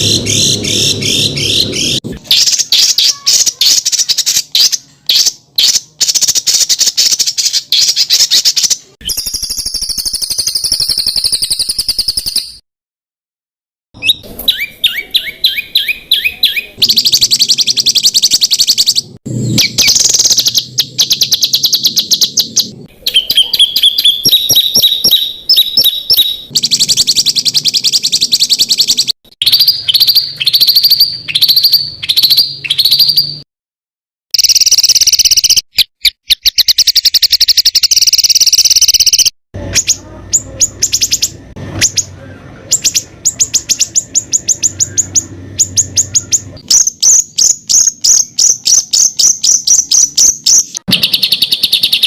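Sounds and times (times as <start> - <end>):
songbirds singing rapid bursts: 0.0 - 12.6, 14.0 - 33.4, 34.4 - 52.0.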